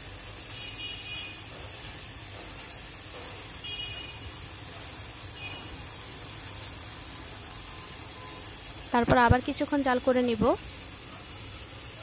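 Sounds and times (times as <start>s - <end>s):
curry simmering hiss: 0.0s - 12.0s.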